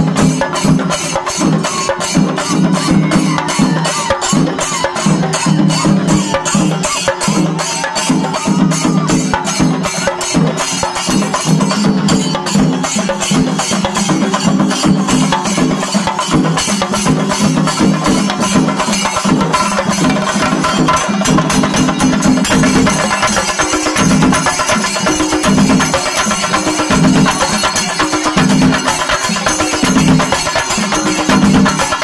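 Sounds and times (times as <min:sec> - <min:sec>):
drums beaten with sticks: 0:00.0 - 0:32.0
hand cymbals clashing: 0:00.0 - 0:32.0.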